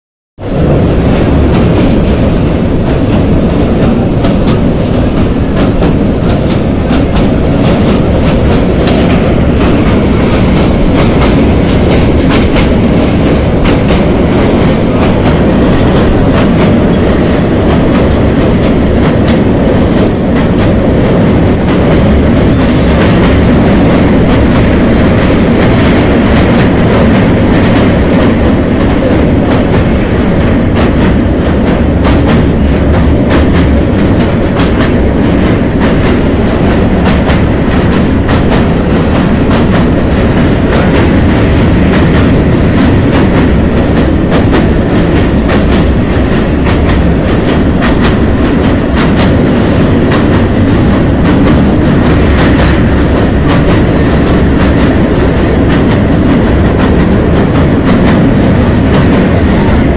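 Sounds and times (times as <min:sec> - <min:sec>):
train wheels rumbling on rails: 0:00.4 - 0:59.9.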